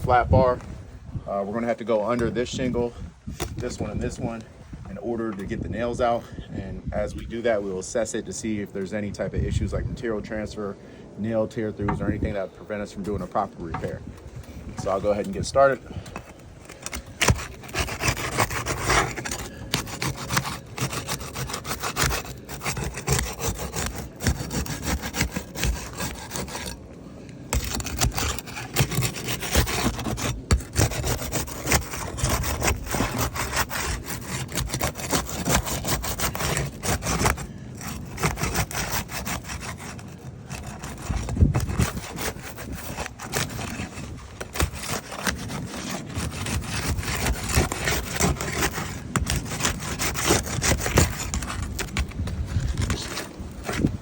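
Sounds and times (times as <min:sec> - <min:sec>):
metal bar scraping under shingles: 0:00.0 - 0:54.0.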